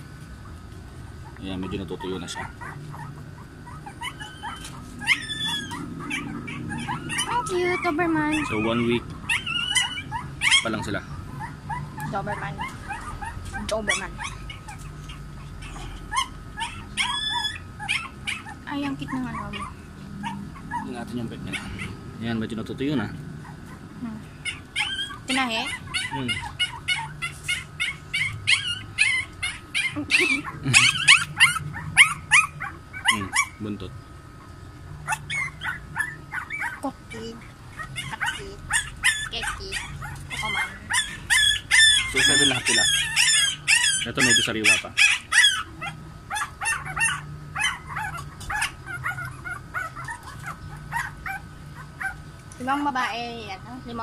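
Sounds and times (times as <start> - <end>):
puppies whimpering: 1.2 - 52.3.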